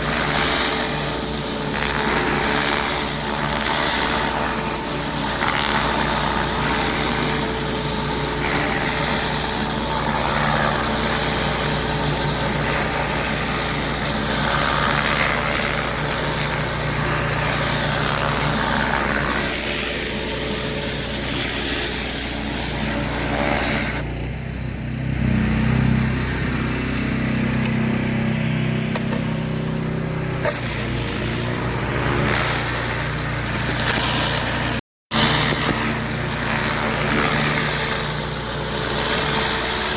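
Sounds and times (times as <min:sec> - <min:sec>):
high-pressure water spray hiss: 0:00.0 - 0:24.0, 0:26.8 - 0:27.2, 0:30.1 - 0:39.9
pressure washer engine running: 0:00.0 - 0:39.9.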